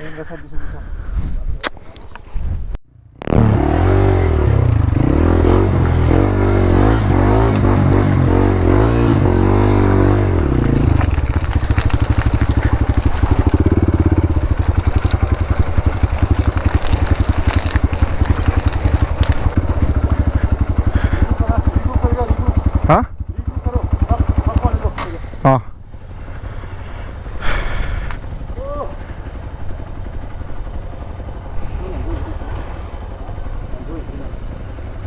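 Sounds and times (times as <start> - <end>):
motorcycle engine revving: 2.9 - 35.0.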